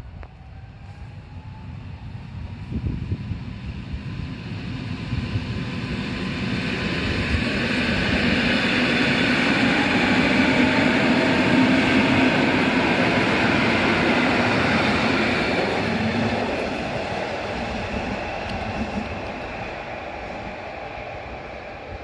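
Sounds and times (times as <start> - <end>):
train rumble and rail noise: 0.0 - 22.0.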